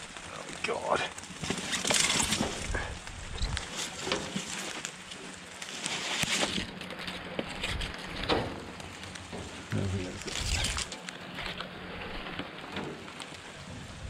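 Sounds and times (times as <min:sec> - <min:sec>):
rummaging through scrap: 0:01.2 - 0:03.0, 0:03.6 - 0:13.3.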